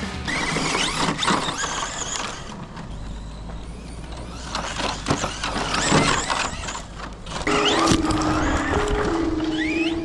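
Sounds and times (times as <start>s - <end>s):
electric rc truck motor whine: 0.3s - 10.0s.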